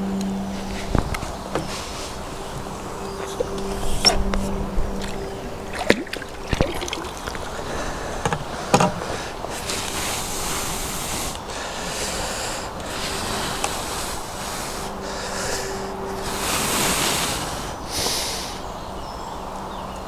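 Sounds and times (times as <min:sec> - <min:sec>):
wind on microphone: 0:00.0 - 0:19.1.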